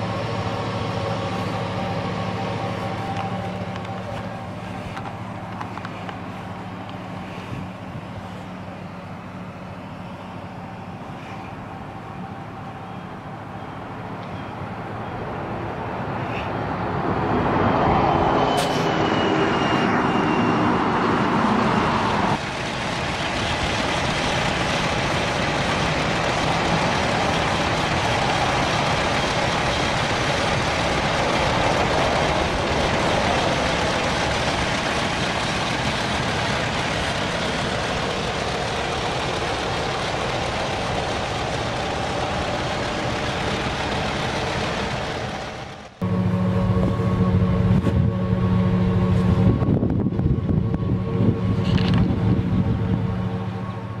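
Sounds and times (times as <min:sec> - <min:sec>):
truck engine idling: 0:00.0 - 0:16.2, 0:21.0 - 0:54.0.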